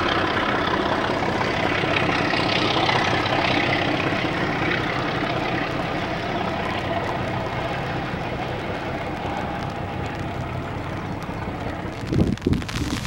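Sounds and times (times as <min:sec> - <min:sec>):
train locomotive working: 0:00.0 - 0:12.4
train wheels rumbling on rails: 0:00.0 - 0:13.0.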